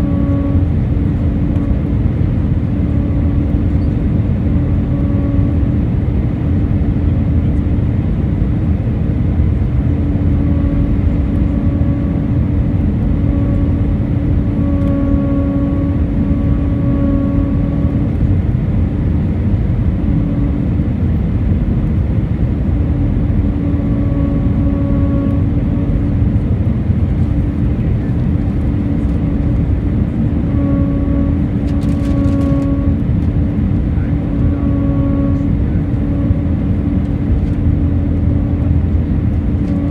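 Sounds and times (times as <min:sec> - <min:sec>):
aircraft cabin roar: 0:00.0 - 0:39.9
droning hum: 0:00.0 - 0:39.9.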